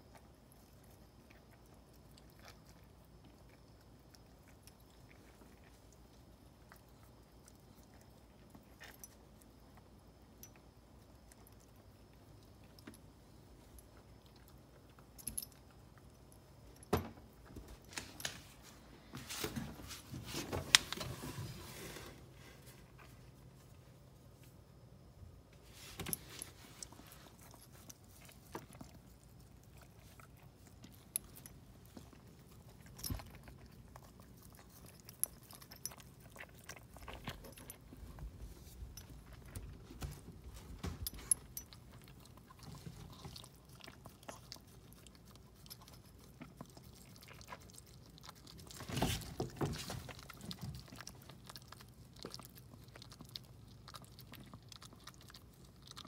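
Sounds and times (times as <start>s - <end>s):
dog licking and chewing: 0.0s - 18.2s, 26.2s - 56.0s.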